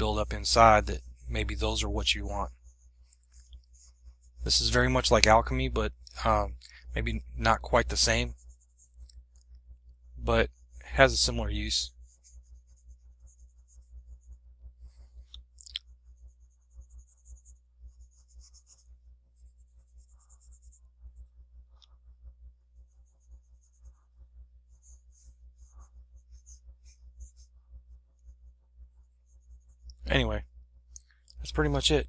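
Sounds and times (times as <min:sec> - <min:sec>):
stylus scratching on tablet: 0:00.0 - 0:06.4, 0:07.1 - 0:09.4, 0:10.2 - 0:15.3, 0:15.9 - 0:22.0, 0:22.7 - 0:30.0
steady low hum: 0:00.0 - 0:32.0.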